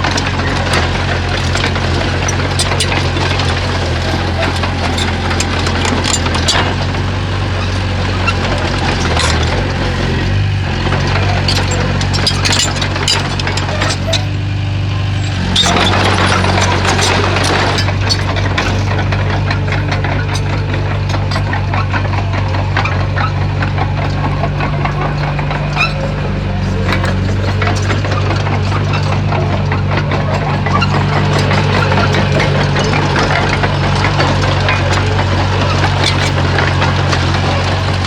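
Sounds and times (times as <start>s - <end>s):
bulldozer diesel engine: 0.0s - 38.0s
sharp knocks and clatter: 0.0s - 38.0s.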